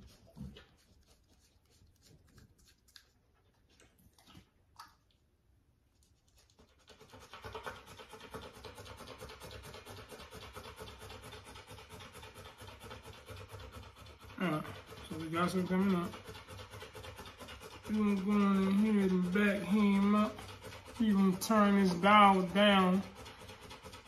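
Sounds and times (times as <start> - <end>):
puppy panting: 0.0 - 4.6, 6.0 - 24.0.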